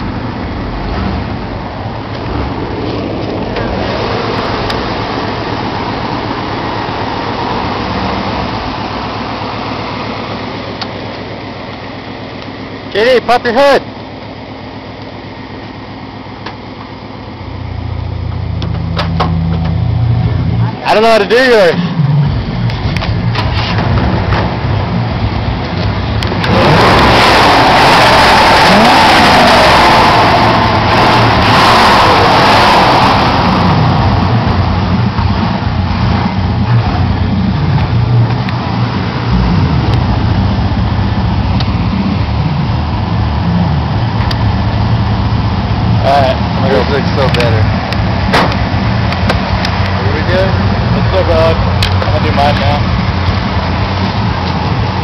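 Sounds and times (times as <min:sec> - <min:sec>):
deep low rumble: 0:00.0 - 0:12.5, 0:17.3 - 0:20.9, 0:21.8 - 0:27.9, 0:29.6 - 0:55.0
car engine running: 0:00.0 - 0:55.0.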